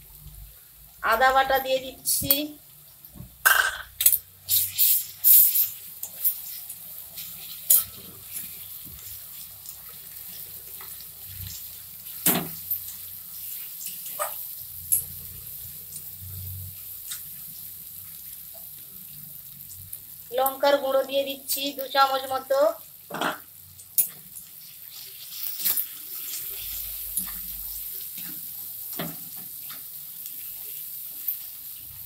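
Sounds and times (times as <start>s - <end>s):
onions sizzling in hot oil: 0.0s - 32.0s.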